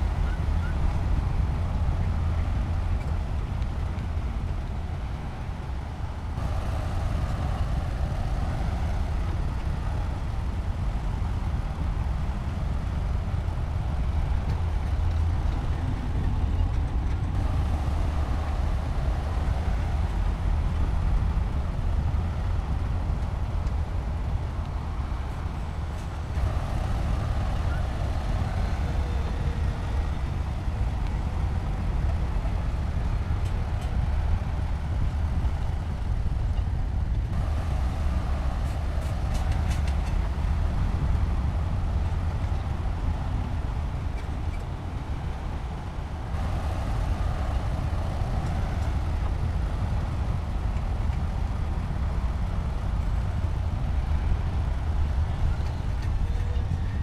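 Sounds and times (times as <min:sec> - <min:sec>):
diesel machinery engine rumbling: 0:00.0 - 0:57.0.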